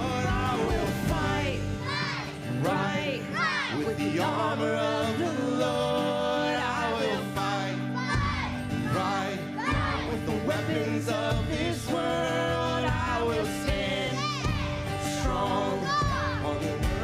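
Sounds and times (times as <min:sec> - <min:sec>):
upbeat music with singing: 0:00.0 - 0:17.0.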